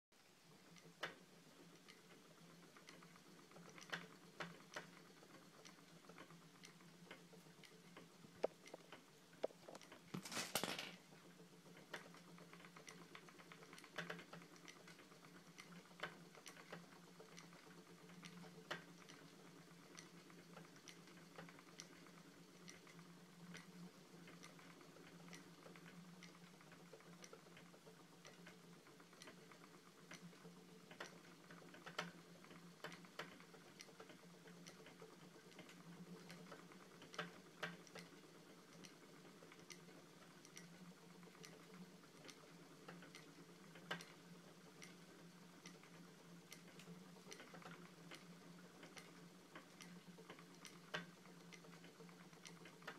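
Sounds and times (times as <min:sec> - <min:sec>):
spinning wheel clicking: 0:00.5 - 0:52.9.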